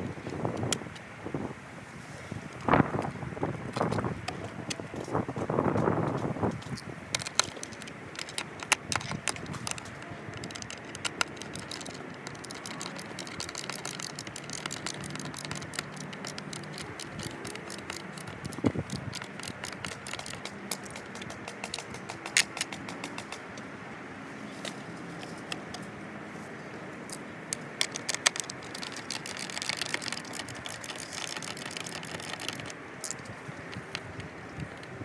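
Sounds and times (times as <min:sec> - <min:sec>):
small metal clicks and rattles: 0:03.7 - 0:23.7, 0:24.6 - 0:25.9, 0:27.0 - 0:35.0.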